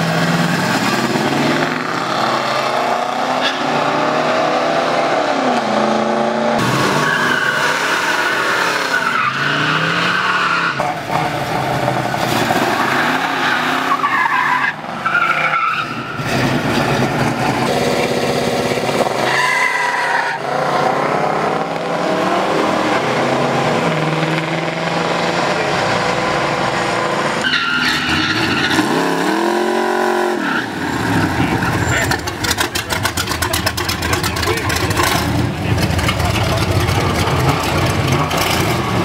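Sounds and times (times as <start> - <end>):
car engines revving hard: 0.0 - 39.0.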